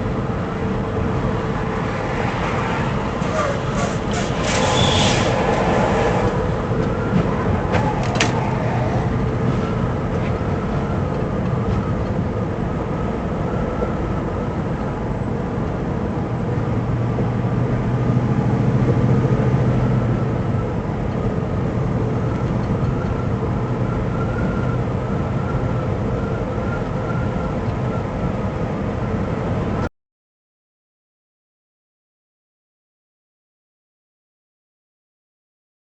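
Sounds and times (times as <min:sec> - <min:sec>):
vehicle engine and tyre hum: 0:00.0 - 0:29.9.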